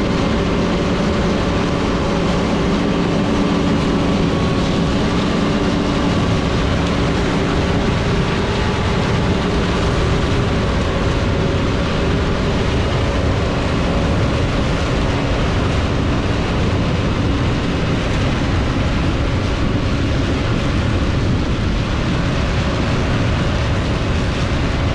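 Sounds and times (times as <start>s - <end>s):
combine harvester droning: 0.0s - 24.9s.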